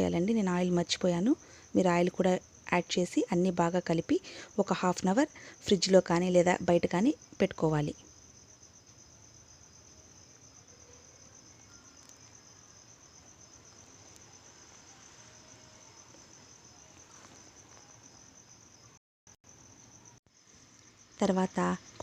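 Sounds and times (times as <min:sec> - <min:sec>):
high-pitched insect trill: 0:00.0 - 0:22.0.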